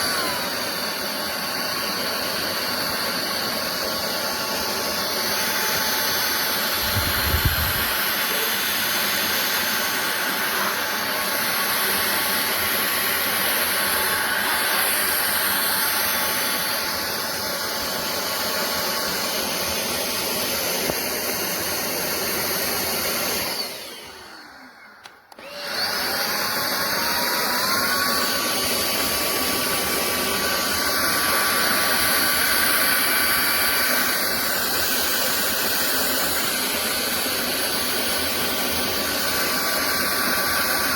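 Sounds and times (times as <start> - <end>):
stick vacuum whining: 0.0 - 40.9.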